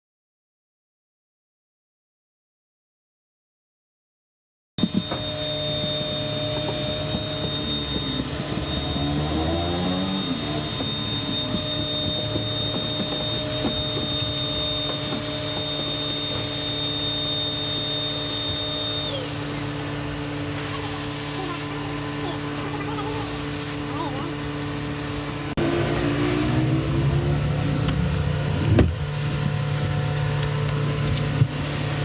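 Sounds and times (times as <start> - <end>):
electric motor whining: 4.8 - 32.0.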